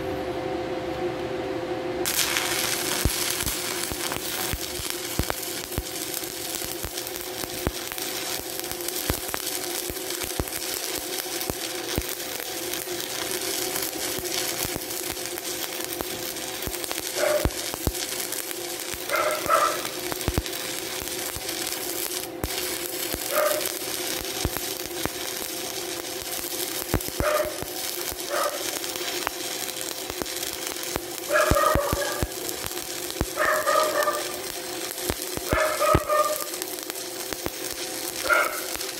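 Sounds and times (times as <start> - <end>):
steady hum: 0.0 - 38.9
welding arc crackling and sizzling: 2.0 - 38.9.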